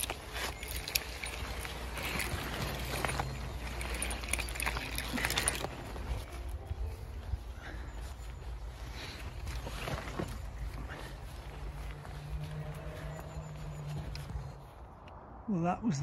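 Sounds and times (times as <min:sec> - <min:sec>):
twigs rustling: 0:00.0 - 0:15.1
footsteps on wet grass: 0:00.0 - 0:15.3.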